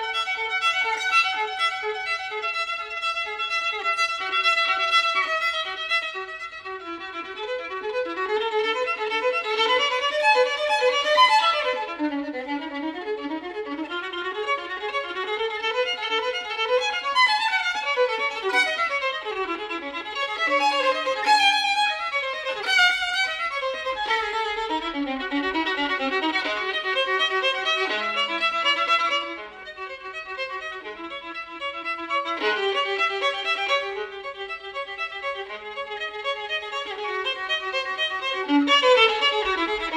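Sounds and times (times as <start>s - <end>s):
violin melody: 0.0s - 39.9s.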